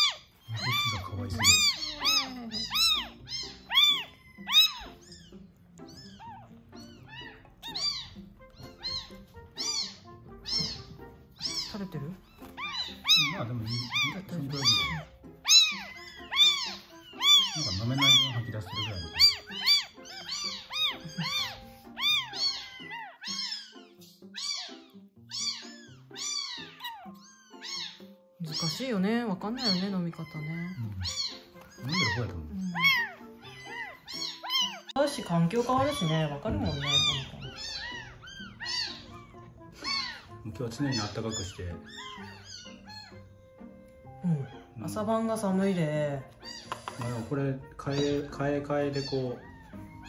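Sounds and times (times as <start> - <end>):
kitten crying: 0.0 - 50.0.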